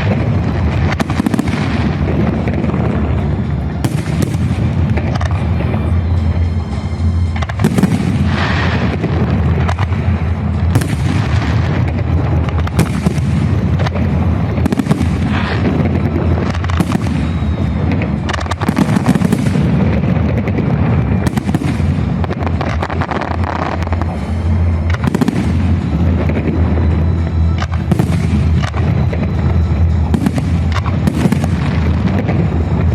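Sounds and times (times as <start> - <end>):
continuous low booming: 0.0 - 32.9.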